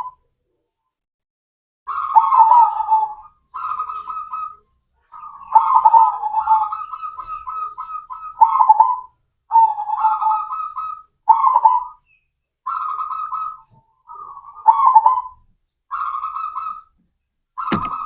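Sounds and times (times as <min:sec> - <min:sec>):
dove cooing: 0:00.0 - 0:00.2, 0:01.9 - 0:12.0, 0:12.7 - 0:16.8, 0:17.6 - 0:18.0.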